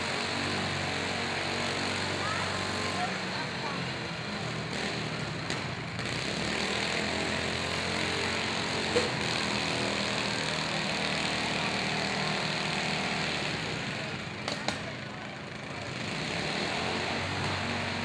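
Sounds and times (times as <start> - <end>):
lawn mower engines running: 0.0 - 18.0.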